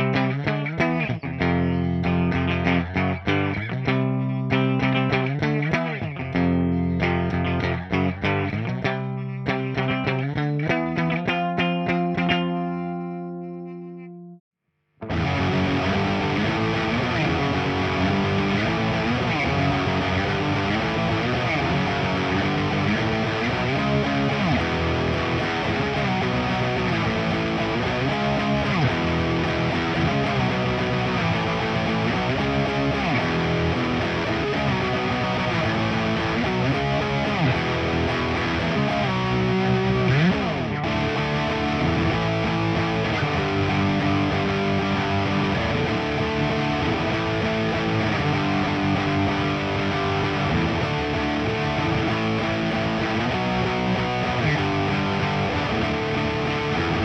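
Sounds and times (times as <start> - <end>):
electric guitar riff with bends: 0.0 - 14.4, 15.0 - 57.0.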